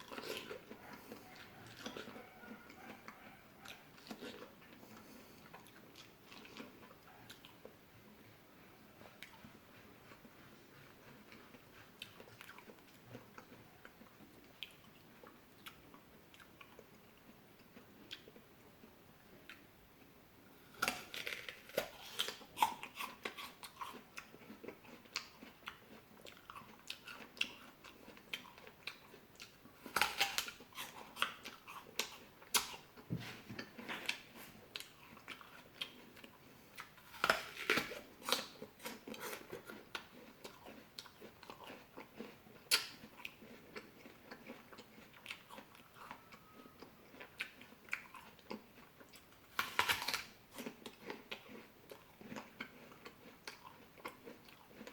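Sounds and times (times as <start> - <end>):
person chewing fruit: 0.0 - 54.9.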